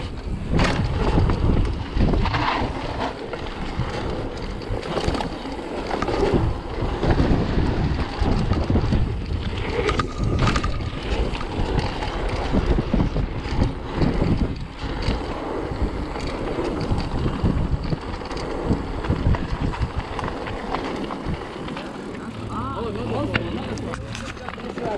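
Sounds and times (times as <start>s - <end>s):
bike knocks and rattles: 0.0s - 22.2s
wind rushing over microphone: 0.0s - 24.9s.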